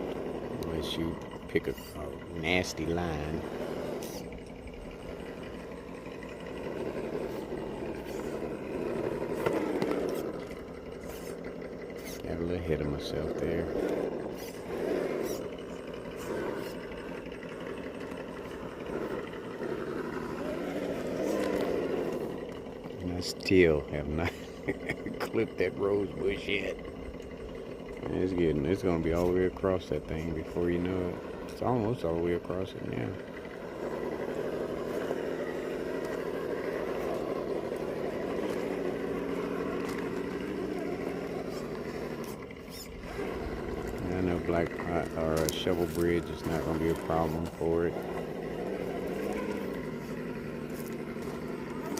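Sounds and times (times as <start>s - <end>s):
electric motor whirring: 0.0s - 51.9s.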